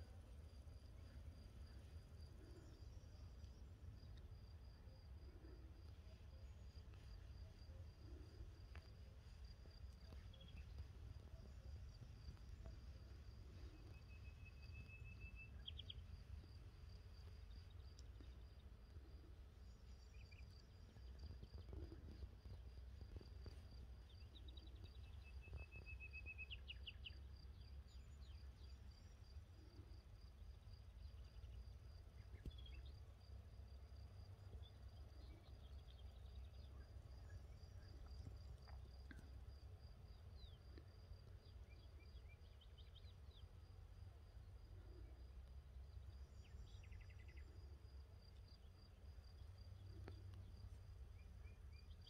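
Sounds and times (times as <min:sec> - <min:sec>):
songbird chirps: 0:00.0 - 0:52.0
insect trill: 0:00.5 - 0:52.0.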